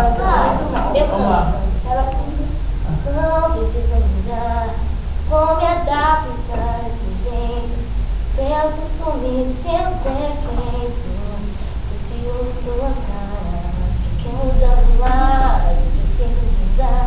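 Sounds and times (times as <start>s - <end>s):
low steady hum: 0.0s - 17.0s
young person singing: 0.0s - 17.0s.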